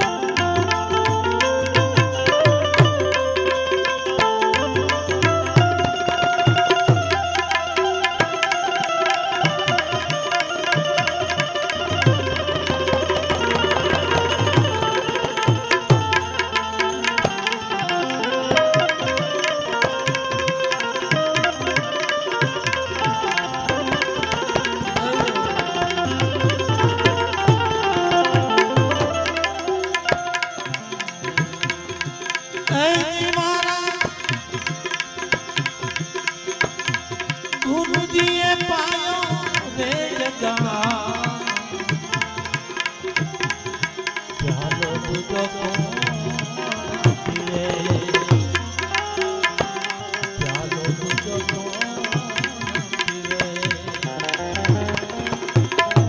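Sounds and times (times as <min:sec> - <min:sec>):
harmonium chords: 0:00.0 - 0:56.0
tabla: 0:00.0 - 0:56.0.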